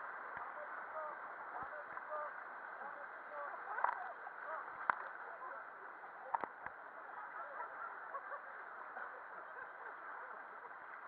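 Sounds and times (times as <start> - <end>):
indistinct chatter of voices: 0.0 - 11.0.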